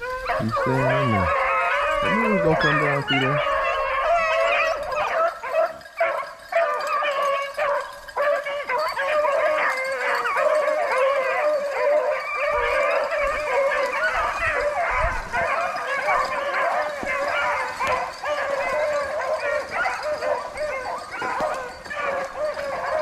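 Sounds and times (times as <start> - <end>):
hounds baying and howling: 0.0 - 23.0.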